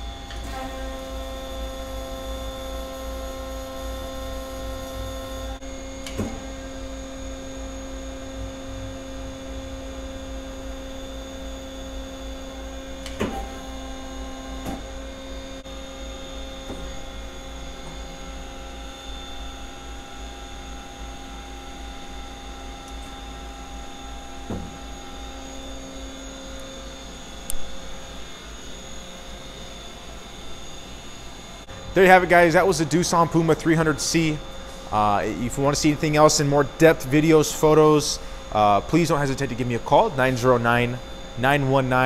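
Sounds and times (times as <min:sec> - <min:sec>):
machine hum: 0:00.0 - 0:42.0.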